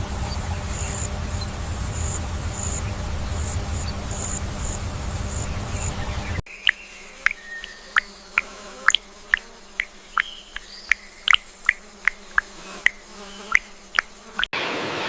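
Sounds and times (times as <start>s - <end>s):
sharp animal chirps: 2.0s - 14.5s.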